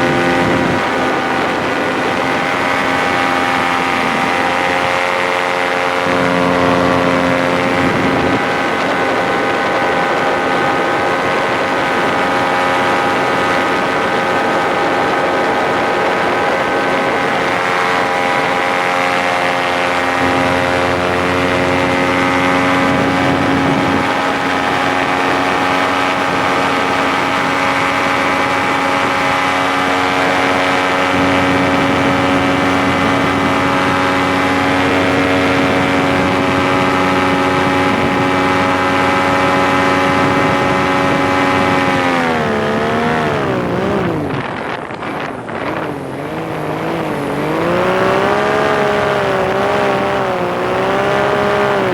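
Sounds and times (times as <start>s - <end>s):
paramotor engine and propeller running: 0.0s - 51.9s.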